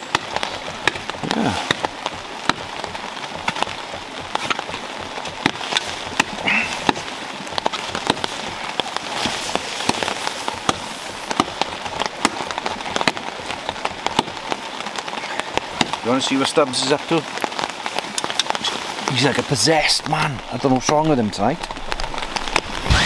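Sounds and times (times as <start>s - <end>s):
rain pattering on a tarp: 0.0s - 23.0s.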